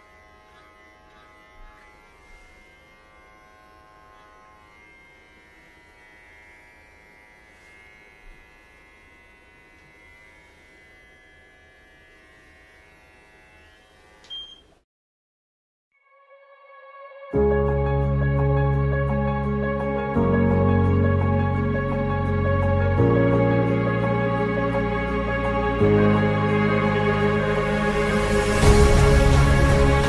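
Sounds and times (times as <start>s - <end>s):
electric hair clippers buzzing: 0.0s - 14.6s, 20.2s - 30.0s.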